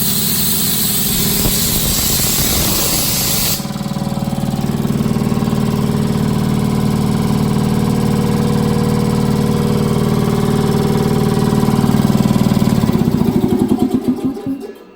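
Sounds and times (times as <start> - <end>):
air compressor pulsing: 0.0 - 14.9.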